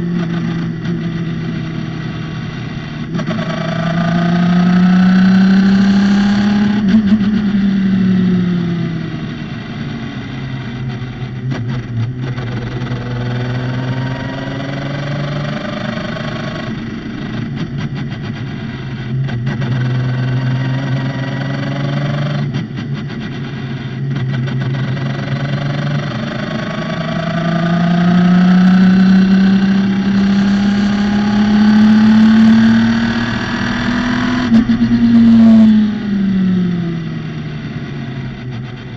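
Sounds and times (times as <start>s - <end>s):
racing car engine: 0.0s - 38.9s.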